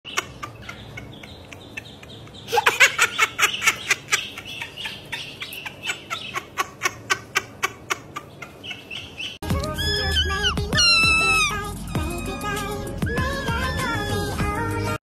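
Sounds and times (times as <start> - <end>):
ducklings peeping: 0.1 - 15.0.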